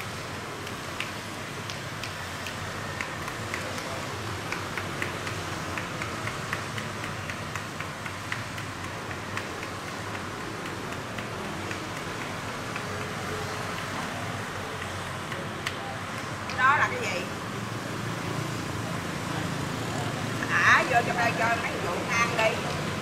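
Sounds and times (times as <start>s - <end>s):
street background noise: 0.0s - 23.0s.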